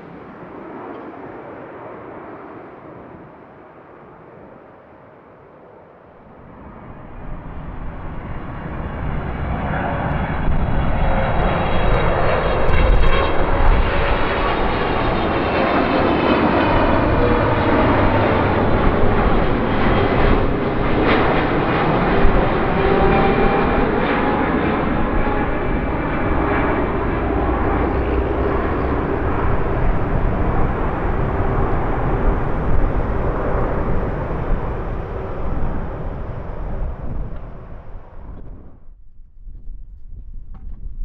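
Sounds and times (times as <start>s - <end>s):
jet engines passing: 0.0s - 39.0s.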